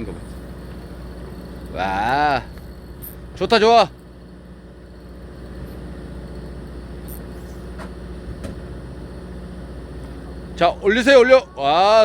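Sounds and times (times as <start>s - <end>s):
boat machinery humming: 0.0s - 12.0s.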